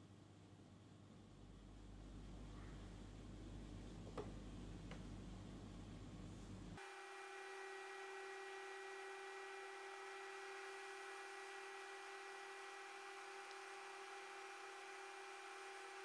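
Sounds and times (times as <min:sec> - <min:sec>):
cooler fan humming and whining: 0:01.0 - 0:16.0.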